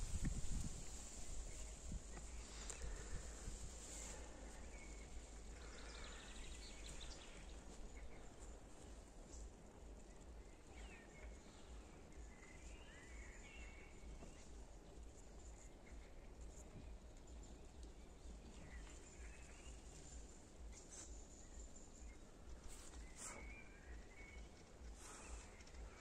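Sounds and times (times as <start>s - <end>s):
soft hiss: 0.0s - 26.0s.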